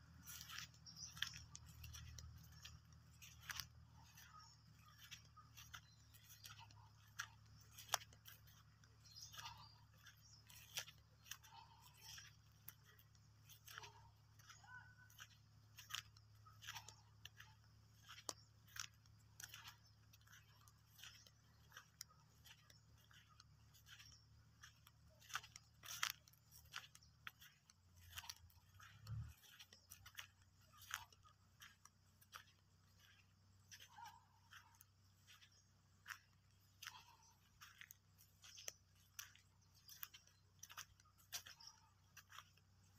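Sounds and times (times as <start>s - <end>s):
footsteps crunching on dry soil: 0.0s - 42.9s.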